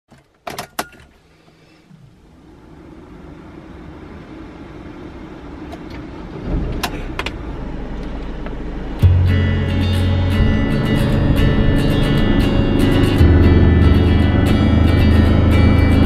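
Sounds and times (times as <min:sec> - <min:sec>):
vehicle engine starting and idling: 0:00.2 - 0:16.0.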